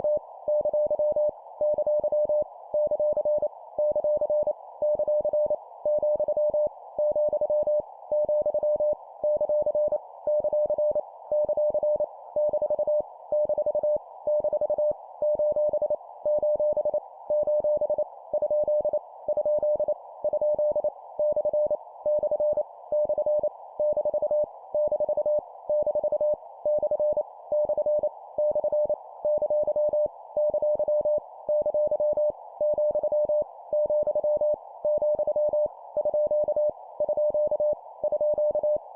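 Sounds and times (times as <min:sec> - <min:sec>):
morse code beeps: 0:00.0 - 0:38.8.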